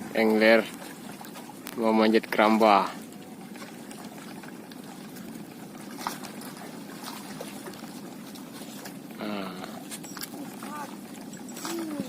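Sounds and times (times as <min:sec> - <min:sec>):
sea water lapping: 0:00.0 - 0:12.0.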